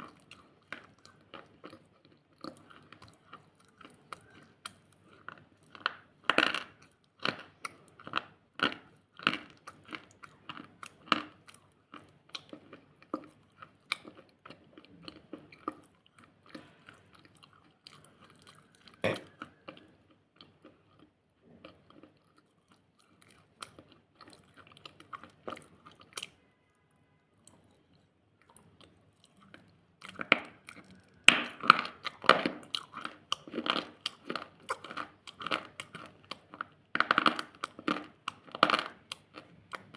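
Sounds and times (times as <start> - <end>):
crunchy chewing: 0.0 - 26.8, 27.4 - 39.9.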